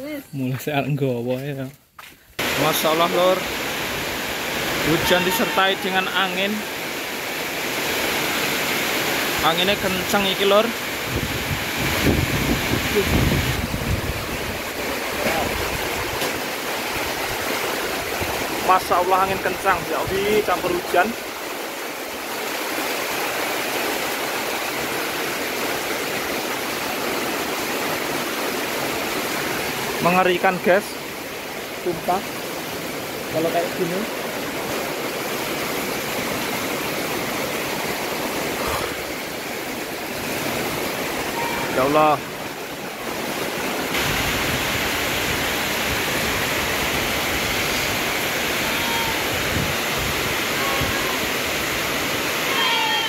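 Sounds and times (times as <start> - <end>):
heavy rain in strong wind: 2.4 - 53.0.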